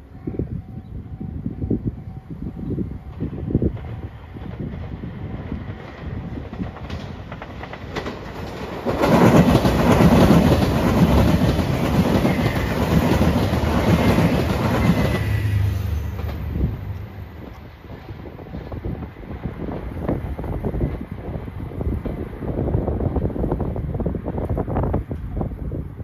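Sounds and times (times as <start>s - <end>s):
diesel train passing at speed: 0.0s - 26.0s
train wheels on rails: 0.6s - 26.0s.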